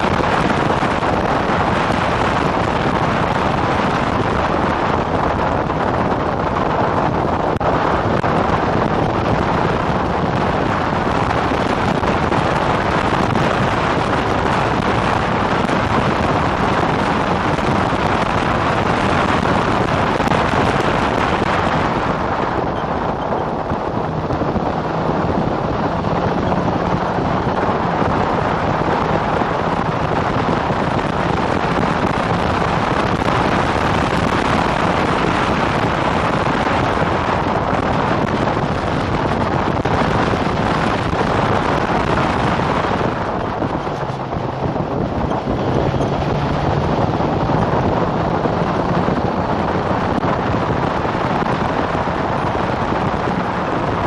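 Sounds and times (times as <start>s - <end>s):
racing car engine: 0.0s - 54.0s
wind rushing on microphone: 0.0s - 54.0s.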